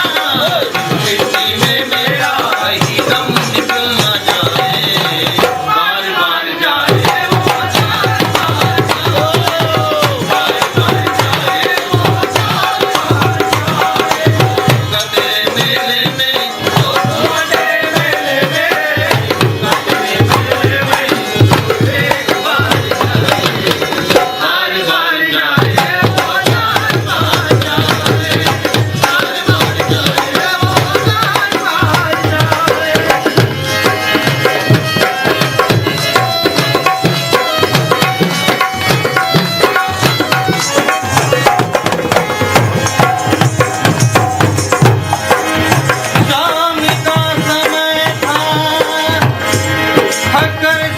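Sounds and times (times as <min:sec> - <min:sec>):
fast hand drum rhythm: 0:00.0 - 0:05.9, 0:06.7 - 0:24.8, 0:25.4 - 0:50.8
devotional music: 0:00.0 - 0:50.9.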